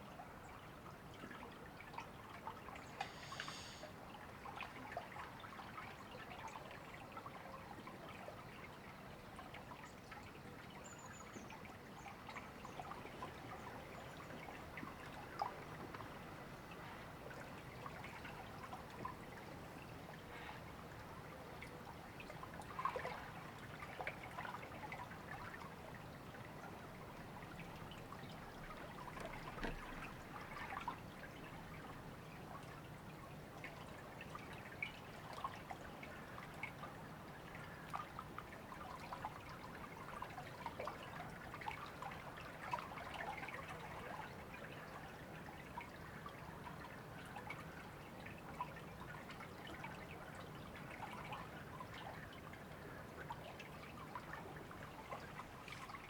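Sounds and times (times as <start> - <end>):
small water splashes and drips: 0.0 - 56.0.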